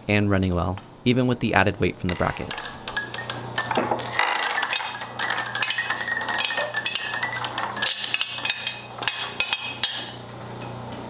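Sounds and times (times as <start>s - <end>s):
conveyor motor hum: 0.0s - 11.0s.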